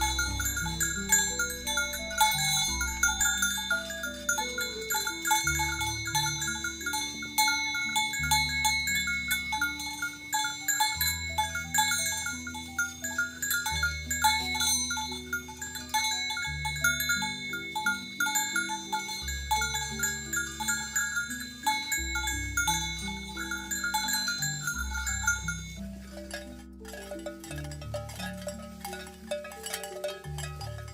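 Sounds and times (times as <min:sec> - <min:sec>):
plinking chime-like melody: 0:00.0 - 0:30.9.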